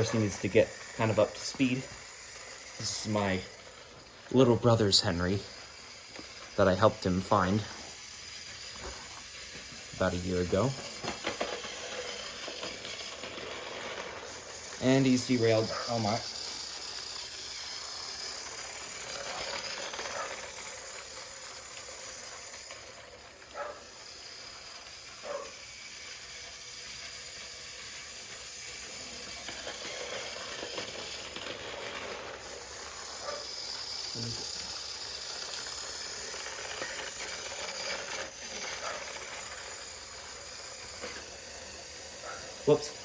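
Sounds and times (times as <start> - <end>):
toy train motor whirring: 0.0 - 43.0.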